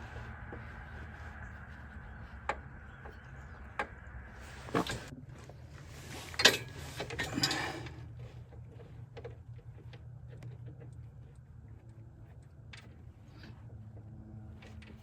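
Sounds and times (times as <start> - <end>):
rustle and clatter: 0.0 - 15.0
steady low hum: 0.0 - 15.0.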